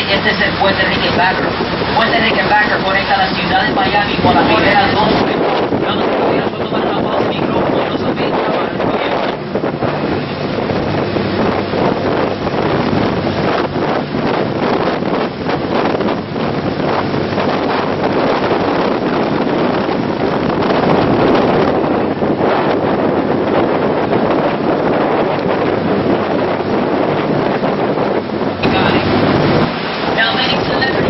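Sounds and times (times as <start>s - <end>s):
boat engine drone: 0.0s - 31.0s
water rushing: 0.0s - 31.0s
wind buffeting microphone: 0.0s - 31.0s.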